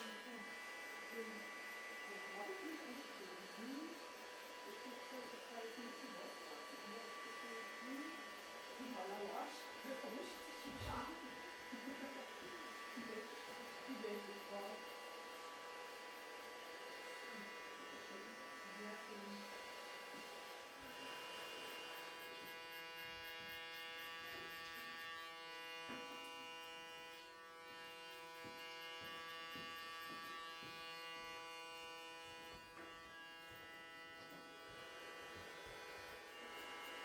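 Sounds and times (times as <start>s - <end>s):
electric hair clipper buzzing: 0.0s - 37.0s.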